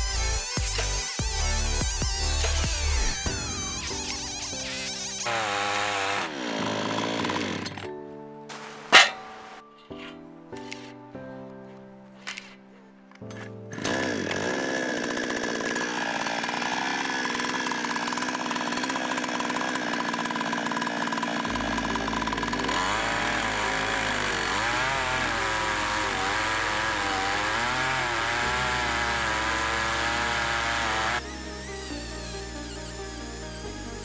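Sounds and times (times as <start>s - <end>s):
chainsaw cutting log: 0.0s - 10.8s, 13.2s - 34.0s.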